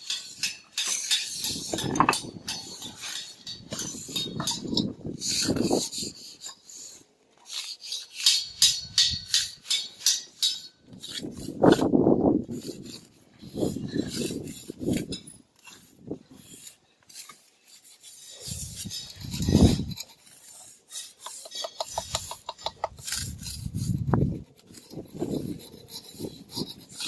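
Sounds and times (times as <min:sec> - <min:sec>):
trowel scraping wet mortar: 0:00.0 - 0:27.0.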